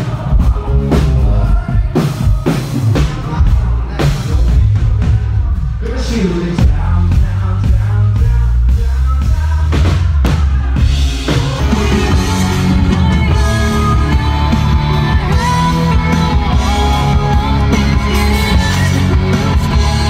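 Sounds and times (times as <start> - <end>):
person singing: 0.0 - 20.0
upbeat pop music: 0.0 - 20.0.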